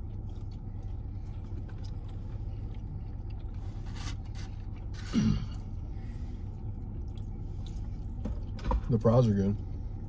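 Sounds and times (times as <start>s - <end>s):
car idling hum: 0.0s - 10.0s.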